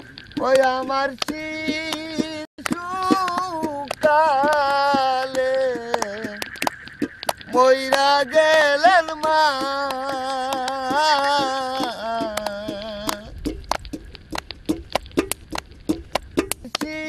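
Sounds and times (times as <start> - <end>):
person singing folk song: 0.0 - 13.7, 16.4 - 17.0
sharp clicks: 0.0 - 17.0.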